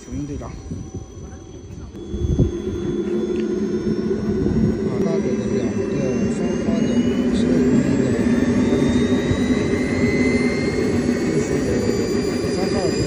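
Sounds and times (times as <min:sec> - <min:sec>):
jet turbine roaring and whining: 0:00.0 - 0:13.0.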